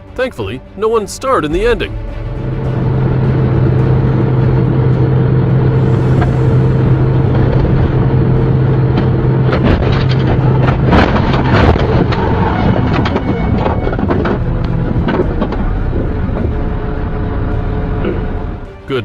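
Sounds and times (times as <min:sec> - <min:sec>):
car engine and road rumble: 0:00.0 - 0:18.9
vehicles colliding: 0:01.5 - 0:18.7.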